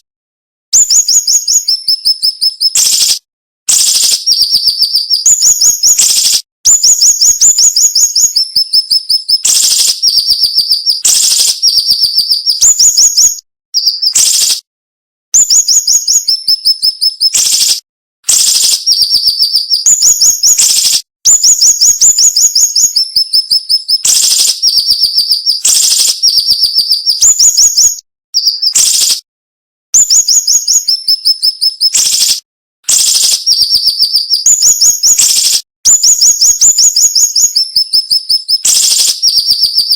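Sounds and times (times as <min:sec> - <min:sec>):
bird singing rapid sharp notes: 0:00.8 - 0:14.7, 0:15.4 - 0:29.2, 0:30.0 - 0:39.9.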